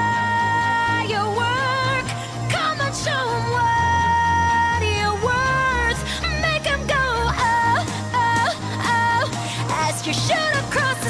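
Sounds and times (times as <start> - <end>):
pop backing track with bass: 0.0 - 11.0
woman singing: 0.0 - 11.0.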